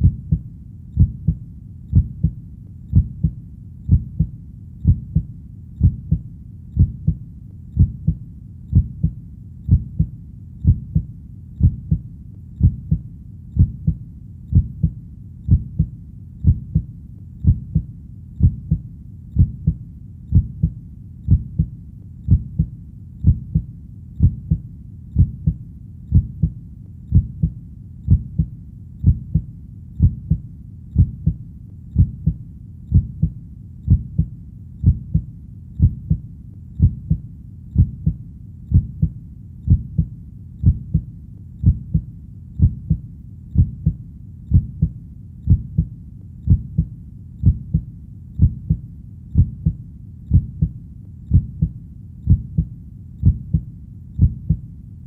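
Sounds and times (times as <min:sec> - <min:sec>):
human heartbeat: 0:00.0 - 0:54.7.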